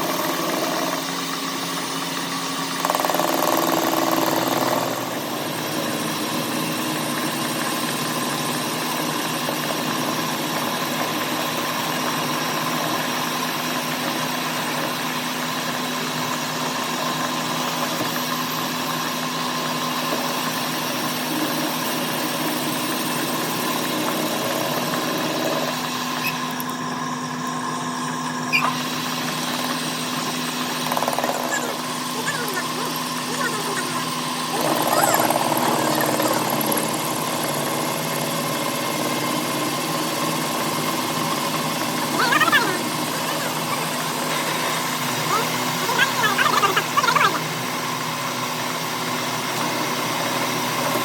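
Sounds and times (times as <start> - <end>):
engine running with steady hum: 0.0 - 51.0.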